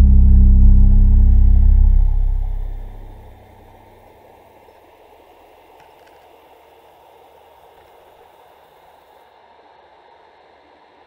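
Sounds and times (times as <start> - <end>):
faint steady rushing hiss: 0.0 - 11.0.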